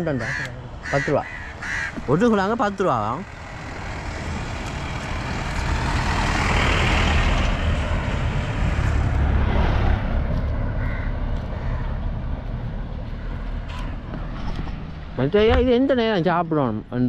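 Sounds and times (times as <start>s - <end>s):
motor vehicle passing: 0.1s - 15.4s.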